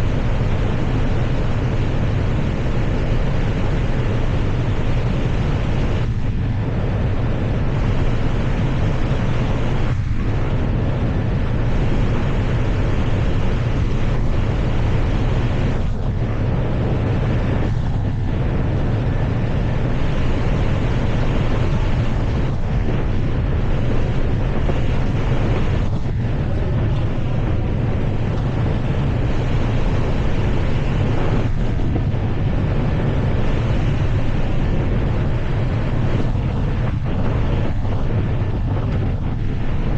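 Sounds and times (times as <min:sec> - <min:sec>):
airliner cockpit roar: 0:00.0 - 0:39.9.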